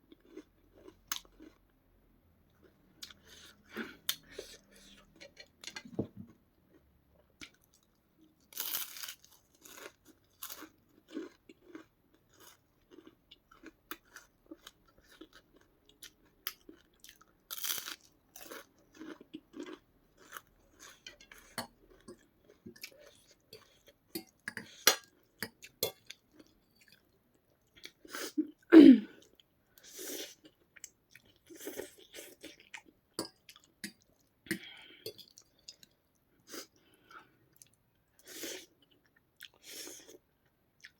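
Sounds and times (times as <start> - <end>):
person chewing crunchy food: 0.1 - 1.7, 2.6 - 28.6, 29.2 - 40.2.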